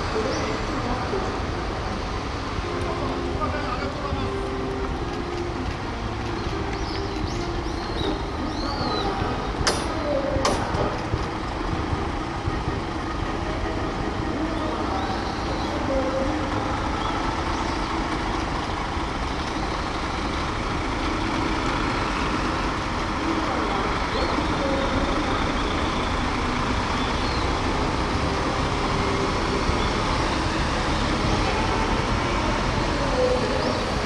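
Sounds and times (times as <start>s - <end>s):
large vehicles passing: 0.0s - 34.0s.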